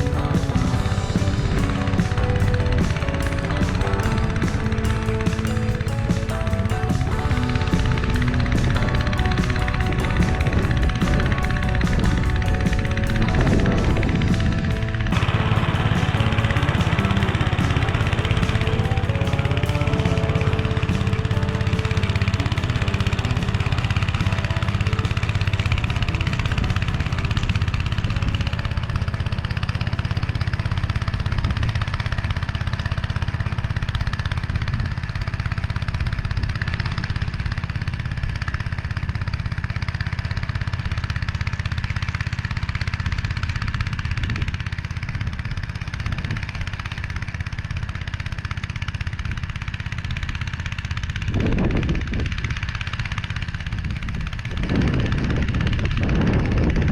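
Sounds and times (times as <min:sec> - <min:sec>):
walk-behind tractor engine running: 0:00.0 - 0:56.9.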